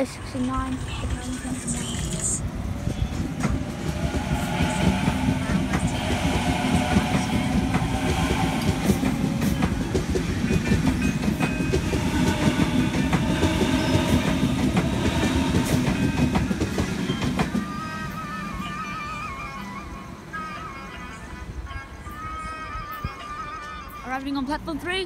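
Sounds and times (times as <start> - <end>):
wheels clicking over rail joints: 0.0 - 21.2
electric train rumbling past: 0.0 - 25.0
steady electric tones: 0.1 - 22.0.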